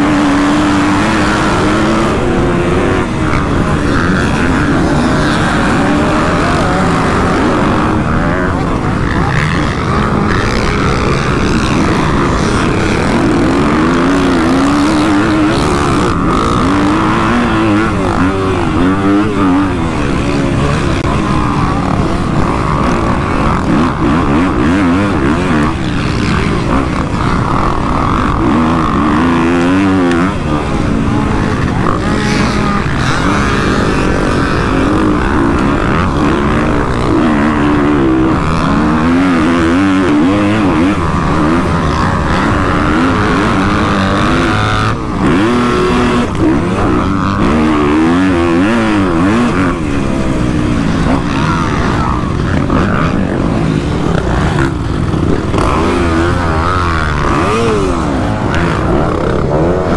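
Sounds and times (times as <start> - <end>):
motocross bike engine revving: 0.0 - 59.9
other dirt bikes racing: 0.0 - 59.9.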